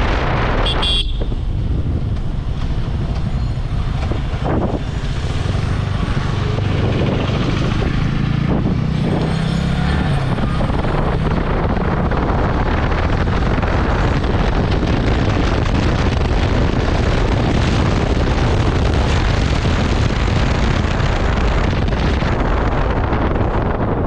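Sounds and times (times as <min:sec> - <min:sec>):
wind noise on microphone: 0:00.0 - 0:24.0
motorcycle engine running: 0:00.6 - 0:24.0.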